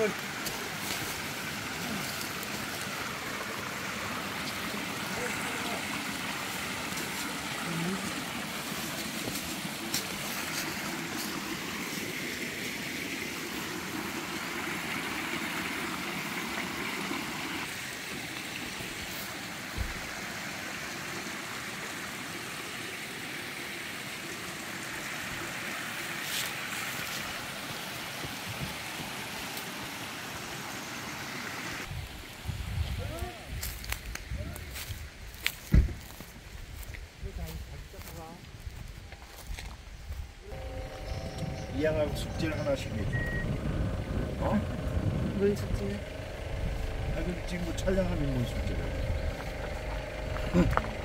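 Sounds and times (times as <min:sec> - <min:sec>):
stream trickling over rocks: 0:00.0 - 0:51.0.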